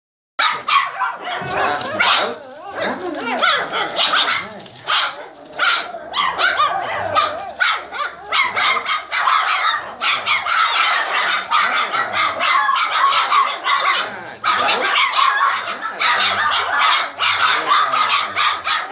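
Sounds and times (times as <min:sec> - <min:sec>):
puppies barking and yipping: 0:00.4 - 0:18.9.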